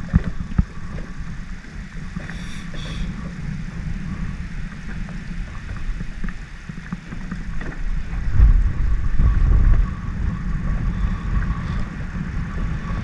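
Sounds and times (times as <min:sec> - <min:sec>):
faint steady whine: 0:00.0 - 0:13.0
wind buffeting microphone: 0:00.0 - 0:13.0.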